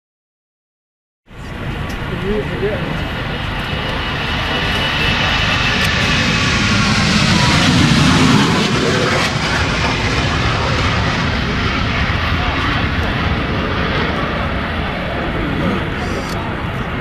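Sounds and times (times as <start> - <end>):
jet engines taking off: 1.3 - 17.0.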